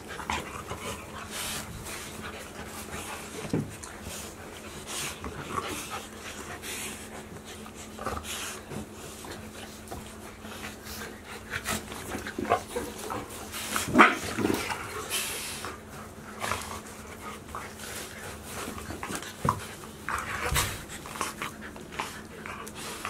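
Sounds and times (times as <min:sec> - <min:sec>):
dogs scuffling: 0:00.0 - 0:23.0.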